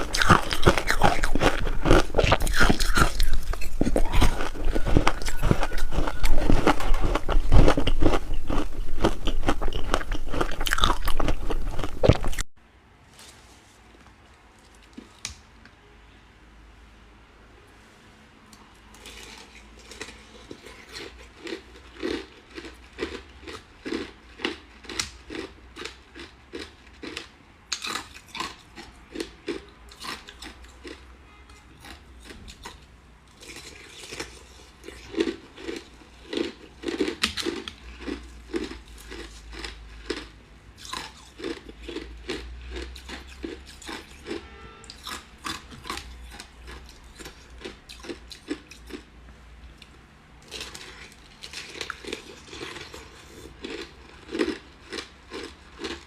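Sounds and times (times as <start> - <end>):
crunching and chewing ice: 0.0 - 12.5, 18.8 - 56.0.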